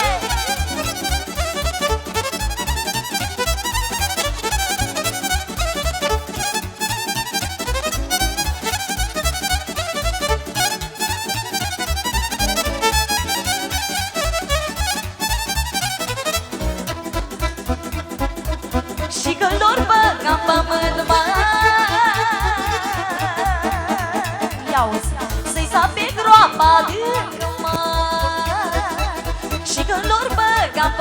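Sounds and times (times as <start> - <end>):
violin melody: 0.0 - 25.3
pounding bass beat: 0.0 - 31.0.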